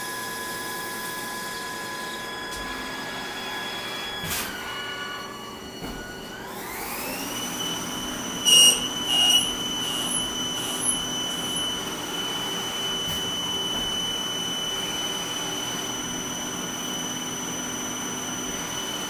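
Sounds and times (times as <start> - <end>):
lathe spindle whine: 0.0 - 19.0.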